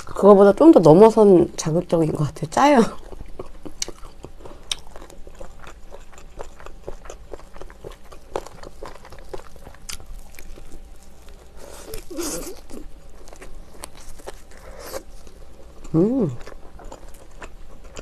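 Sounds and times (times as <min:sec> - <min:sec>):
wet chewing: 0:02.7 - 0:18.0
crunching fried chicken: 0:02.8 - 0:18.0.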